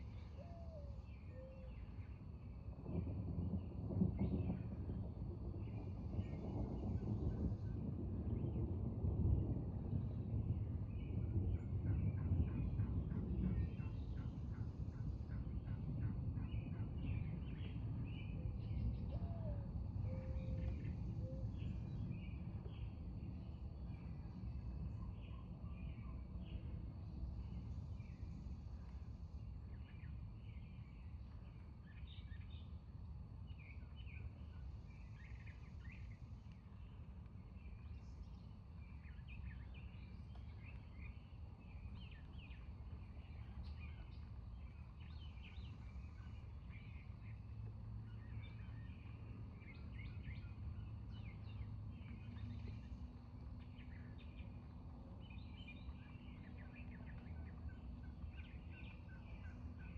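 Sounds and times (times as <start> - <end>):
low background rumble: 0.0 - 59.9.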